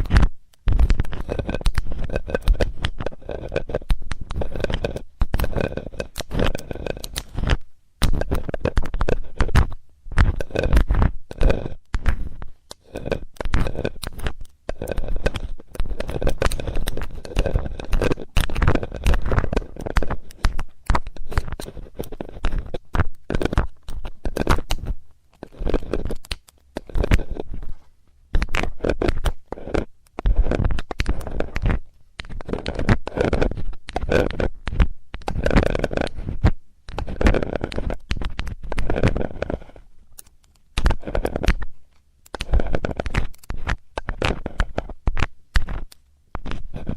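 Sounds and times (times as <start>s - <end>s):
metal tool scraping microphone: 0.0s - 39.9s, 40.8s - 41.7s, 42.3s - 46.9s.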